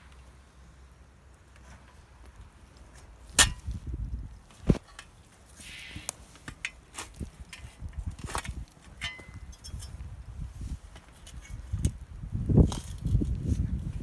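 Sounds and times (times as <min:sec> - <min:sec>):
scraping and rustling of ground litter: 0:01.4 - 0:14.0.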